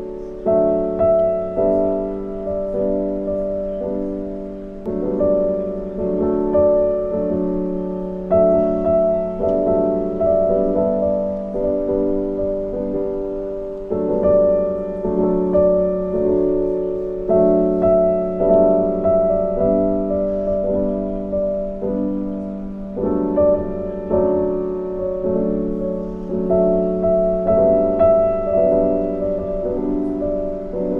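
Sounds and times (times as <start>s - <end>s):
piano music: 0.0s - 30.9s.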